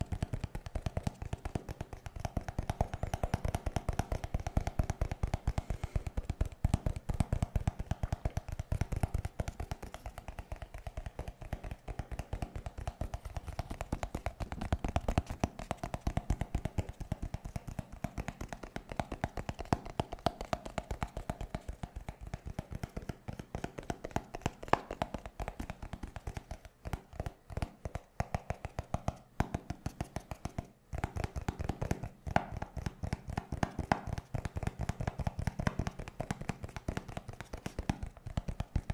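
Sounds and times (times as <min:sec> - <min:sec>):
fingernails tapping on paper: 0:00.0 - 0:38.9.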